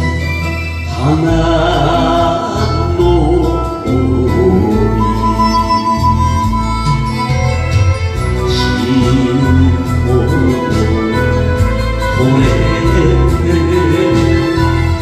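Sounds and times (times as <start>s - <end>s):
karaoke backing track: 0.0s - 15.0s
man singing into microphone: 0.9s - 6.6s, 8.5s - 15.0s.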